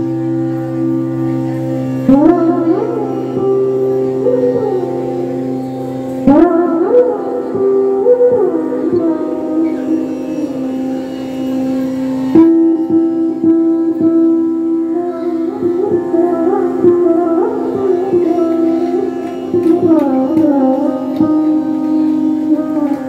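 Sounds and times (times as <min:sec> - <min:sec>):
plucked string melody: 0:00.0 - 0:23.0
steady drone: 0:00.0 - 0:23.0.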